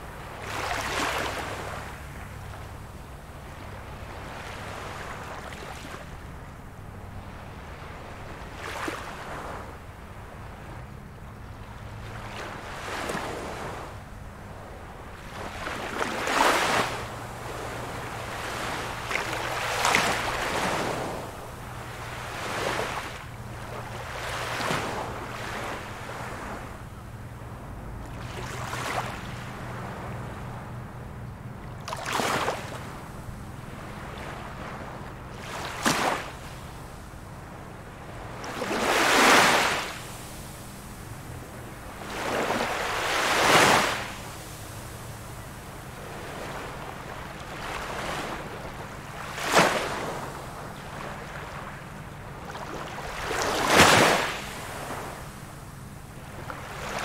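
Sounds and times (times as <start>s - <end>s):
small waves breaking on beach: 0.0s - 6.5s, 7.2s - 57.0s.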